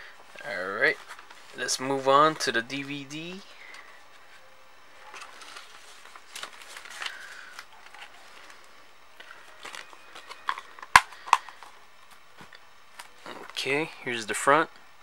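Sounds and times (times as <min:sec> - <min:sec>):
packaging rustling and scraping: 0:00.9 - 0:04.4, 0:05.0 - 0:13.6.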